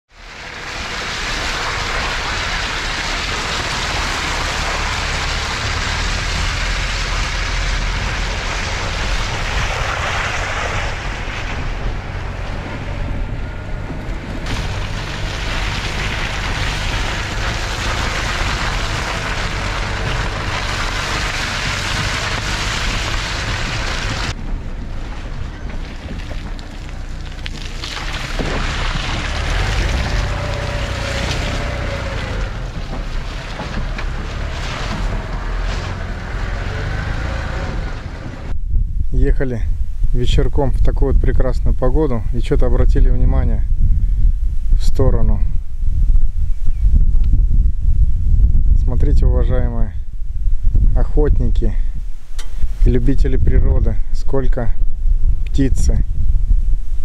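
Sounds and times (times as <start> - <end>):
car engine rumble: 0.1 - 57.0
wind buffeting microphone: 0.5 - 57.0.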